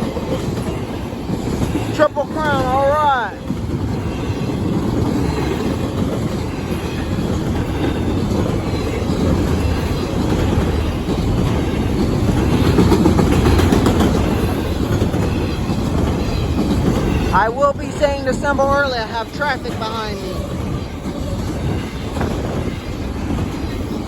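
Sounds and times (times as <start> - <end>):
freight train cars rolling past: 0.0 - 24.0.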